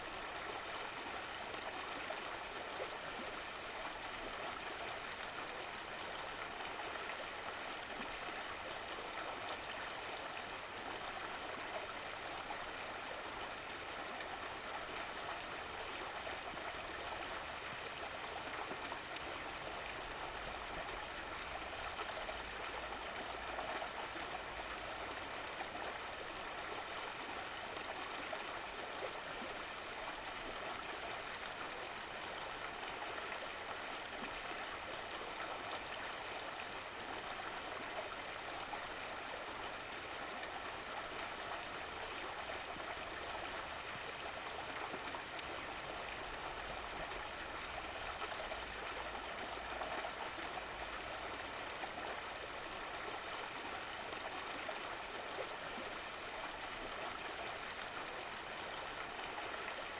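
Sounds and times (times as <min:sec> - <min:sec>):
stream water gurgling: 0:00.0 - 0:59.9.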